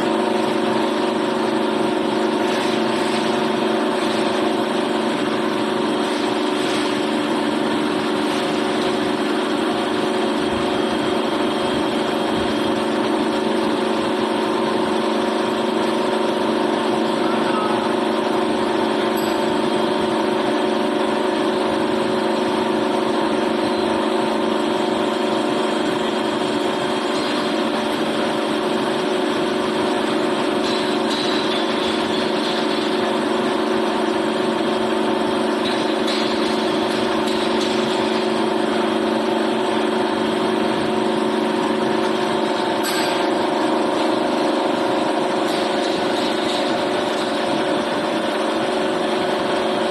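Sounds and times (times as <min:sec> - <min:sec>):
machine humming: 0:00.0 - 0:49.9.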